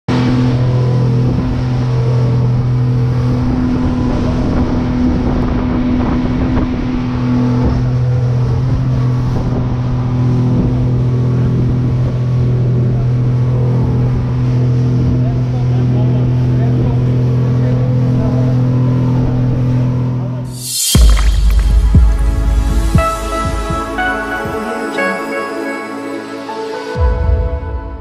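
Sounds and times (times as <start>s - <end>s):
motorboat engine droning: 0.1s - 27.9s.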